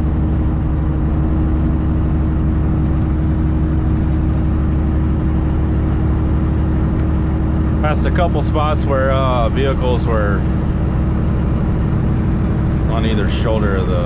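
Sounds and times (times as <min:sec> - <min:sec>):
road noise: 0:00.0 - 0:14.0
truck diesel engine running: 0:00.0 - 0:14.0.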